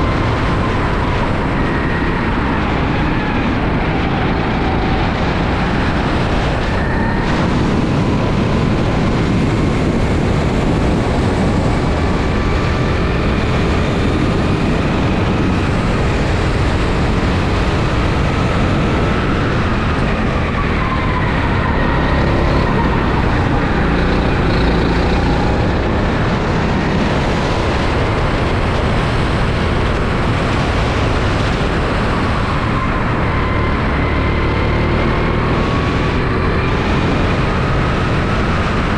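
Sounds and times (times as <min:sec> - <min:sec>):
kart engine running: 0:00.0 - 0:38.9
wind and road noise: 0:00.0 - 0:38.9.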